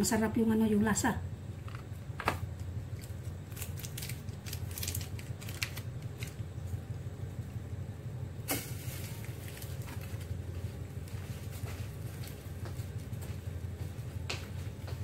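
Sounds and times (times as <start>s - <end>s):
gas burner low hum: 0.0s - 15.0s.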